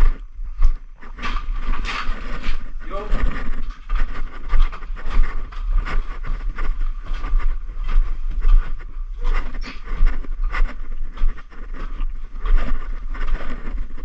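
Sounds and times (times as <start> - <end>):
footsteps crunching over debris: 0.0 - 14.0
low rumble of handled camera: 0.0 - 14.0.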